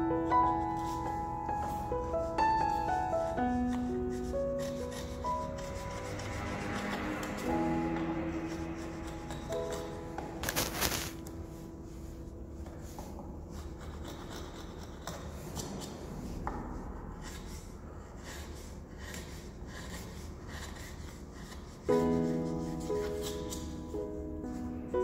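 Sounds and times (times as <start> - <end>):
chisel shaving wood: 0.8 - 11.1, 12.8 - 16.4, 17.2 - 23.9.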